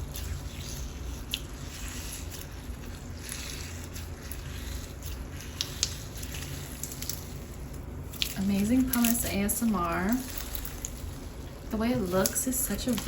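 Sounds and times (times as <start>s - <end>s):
slime squishing by hand: 0.0s - 13.0s
soft crackling of pumice: 0.0s - 13.0s.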